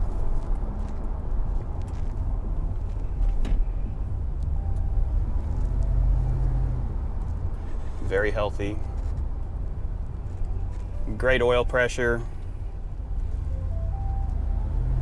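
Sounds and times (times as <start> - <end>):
road rumble: 0.0 - 15.0.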